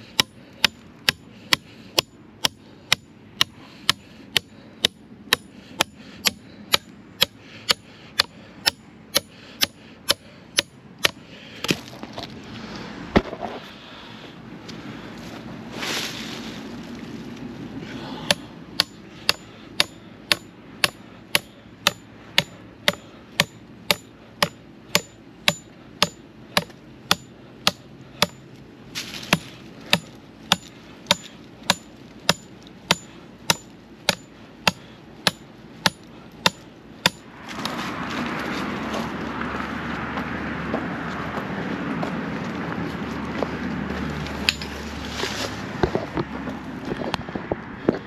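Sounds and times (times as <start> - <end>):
low hum of vehicle cab: 0.0 - 48.0
road noise: 0.0 - 48.0.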